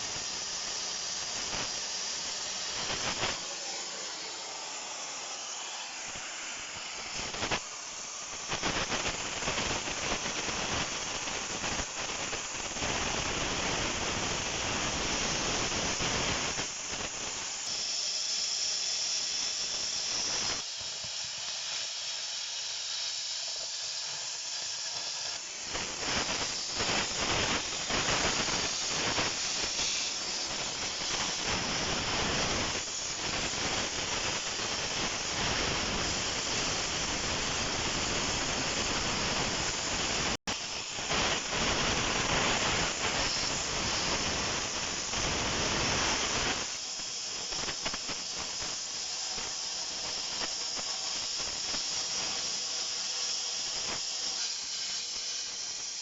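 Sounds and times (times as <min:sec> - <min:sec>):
metal cutting hiss: 0:00.0 - 0:56.0.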